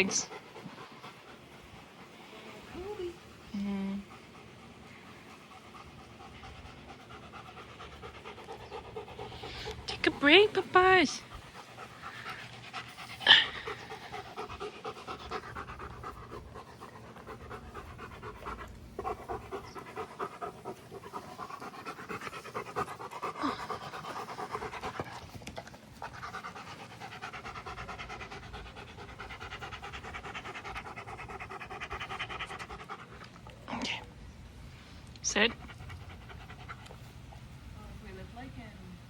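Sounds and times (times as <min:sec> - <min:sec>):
dog panting: 0:00.0 - 0:38.2.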